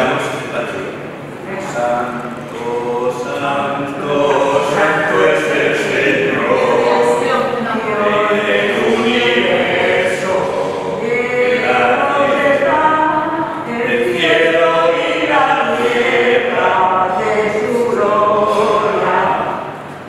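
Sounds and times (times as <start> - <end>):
choir singing slow song: 1.4 - 20.0.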